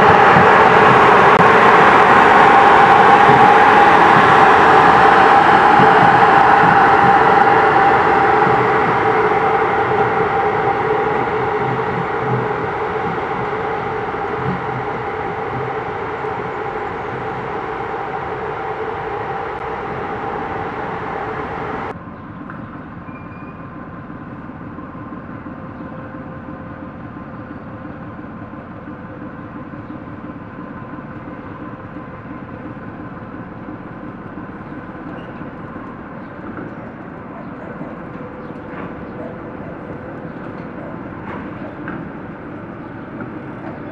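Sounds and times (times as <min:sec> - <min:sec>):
locomotive whining: 0:00.0 - 0:43.9
quiet locomotive hum: 0:00.0 - 0:43.9.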